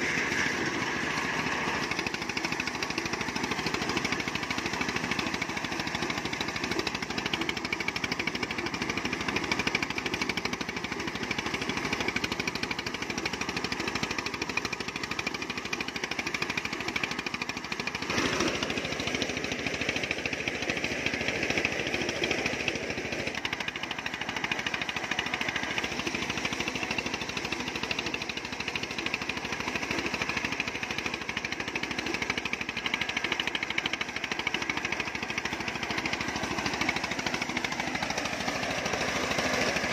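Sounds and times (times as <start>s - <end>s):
corn sheller rattling clatter: 0.0s - 39.9s.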